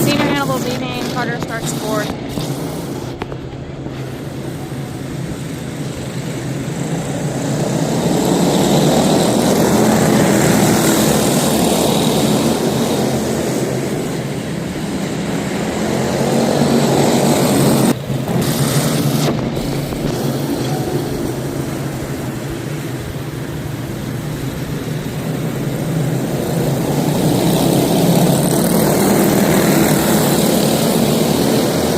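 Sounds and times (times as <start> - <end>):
small race car engines: 0.0 - 31.9.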